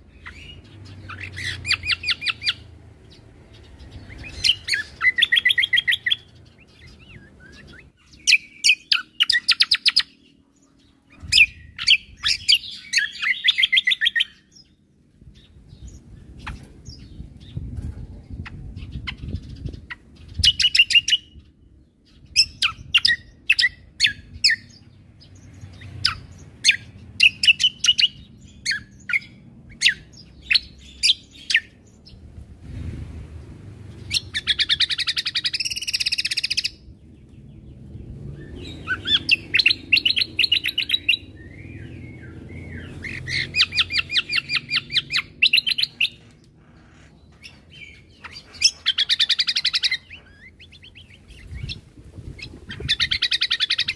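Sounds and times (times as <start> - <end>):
songbird chirping and trilling: 0.0 - 53.9.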